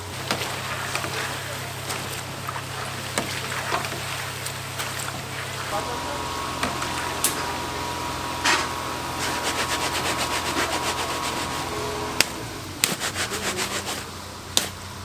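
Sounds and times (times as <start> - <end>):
motor hum with whine: 0.0 - 15.0.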